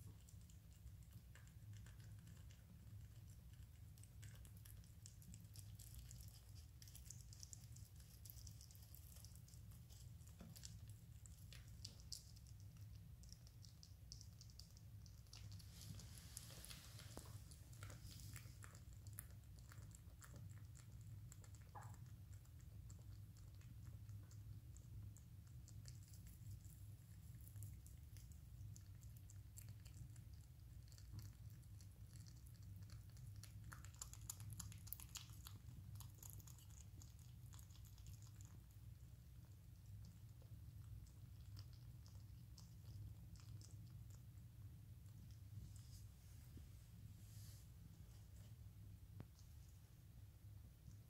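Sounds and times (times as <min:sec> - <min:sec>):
rabbit chewing crisp clicks: 0:00.0 - 0:45.6
low steady hum: 0:00.0 - 0:51.0.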